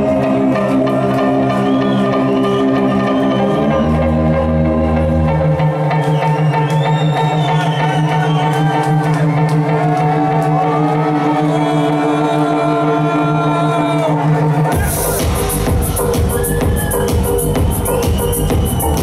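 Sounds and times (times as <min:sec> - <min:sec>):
held synth chords: 0:00.0 - 0:06.0, 0:08.7 - 0:19.0.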